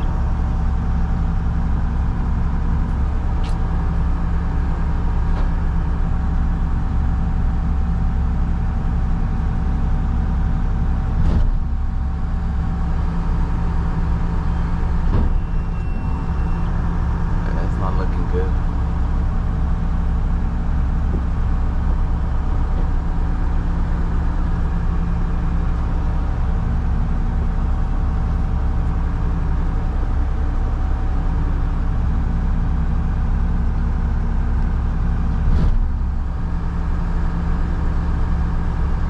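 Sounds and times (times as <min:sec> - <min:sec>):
garbage truck engine running: 0:00.0 - 0:39.0.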